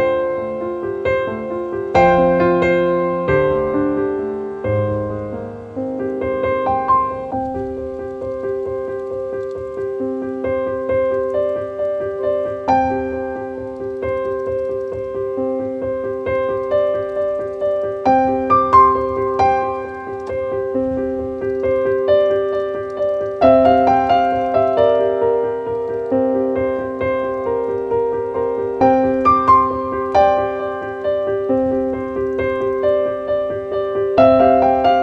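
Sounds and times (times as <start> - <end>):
slow gentle piano melody: 0.0 - 35.0.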